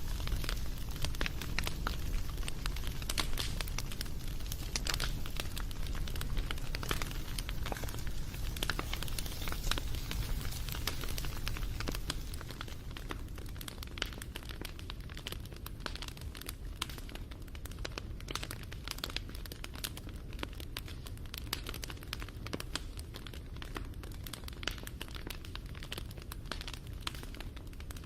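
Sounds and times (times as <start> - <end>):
low rumble of fire: 0.0 - 28.0
wood fire crackling: 0.0 - 28.0.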